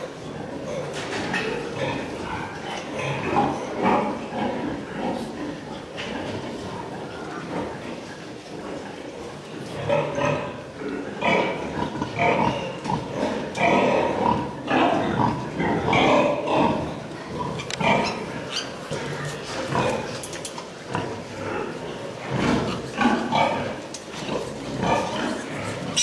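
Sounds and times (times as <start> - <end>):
pigs calling: 0.0 - 26.0.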